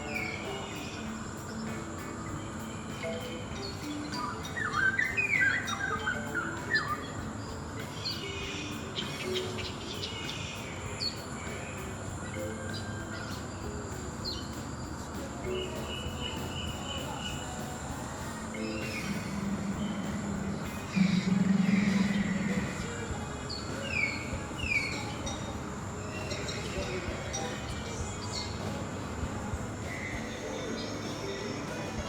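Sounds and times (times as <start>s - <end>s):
birds chirping and calling: 0.0s - 32.0s
outdoor background noise: 0.0s - 32.0s
steady high-pitched whine: 0.0s - 32.0s.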